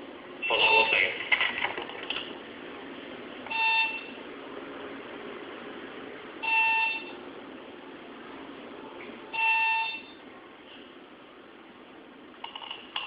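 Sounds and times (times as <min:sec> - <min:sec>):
quiet phone line hum: 0:00.0 - 0:13.0.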